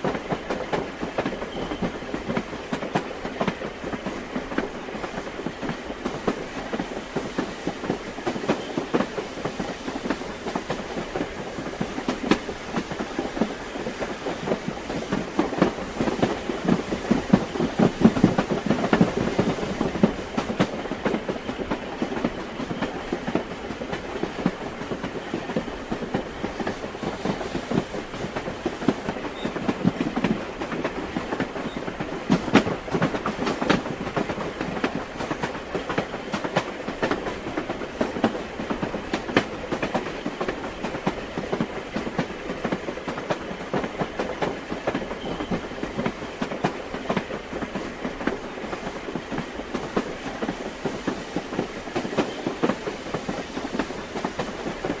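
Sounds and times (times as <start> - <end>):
railway carriage rattling: 0.0 - 55.0
train wheels clicking over rail joints: 0.0 - 55.0.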